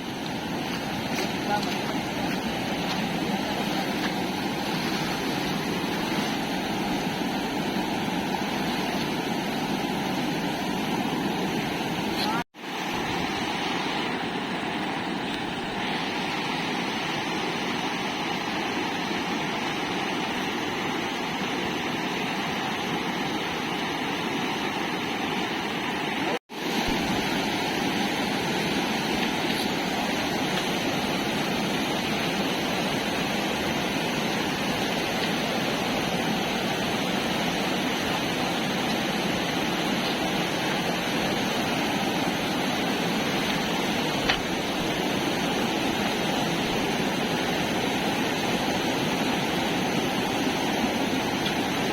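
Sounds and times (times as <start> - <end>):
flooded river rushing: 0.0 - 51.9.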